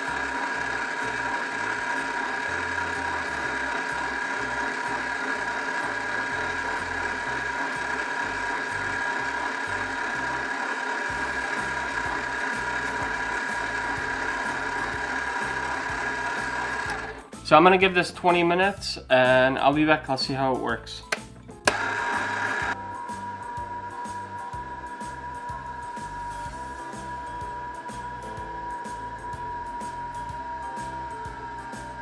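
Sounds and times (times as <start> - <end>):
slush maker motor whirring: 0.0 - 17.5, 21.1 - 32.0.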